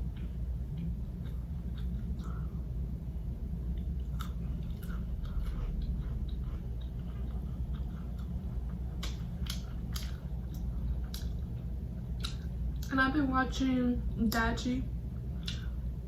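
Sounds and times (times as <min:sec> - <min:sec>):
person chewing food: 0:00.0 - 0:03.0, 0:03.6 - 0:12.9, 0:15.1 - 0:16.0
steady low hum: 0:00.0 - 0:16.0.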